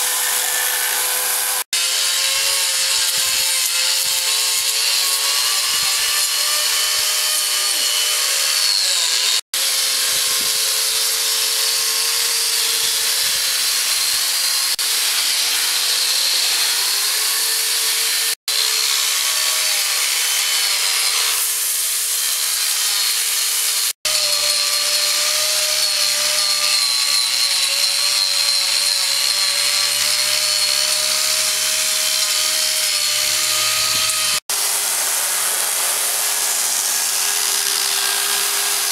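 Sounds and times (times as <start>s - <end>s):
angle grinder cutting wood: 0.0s - 38.9s.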